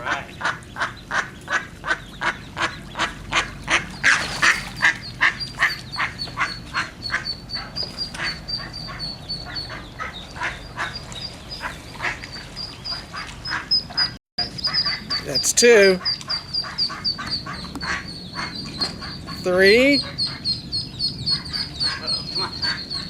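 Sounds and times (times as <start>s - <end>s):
duck quacking: 0.0s - 11.0s, 12.9s - 20.6s, 21.3s - 23.0s
ducklings peeping: 0.0s - 23.0s.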